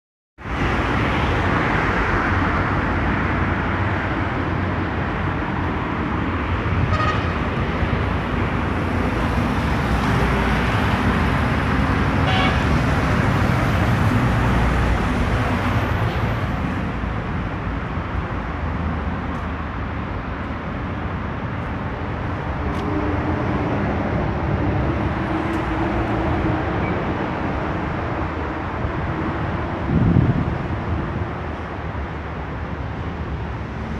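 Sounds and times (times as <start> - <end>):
road vehicle running noise: 0.4 - 33.9.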